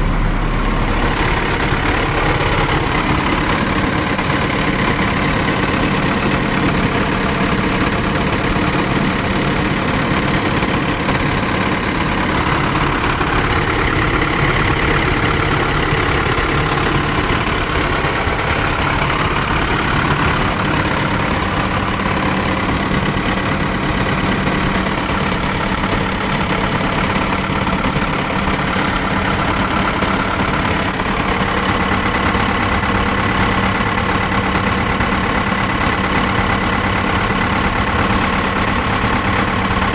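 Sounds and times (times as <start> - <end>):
excavator diesel engine idling: 0.0 - 39.9.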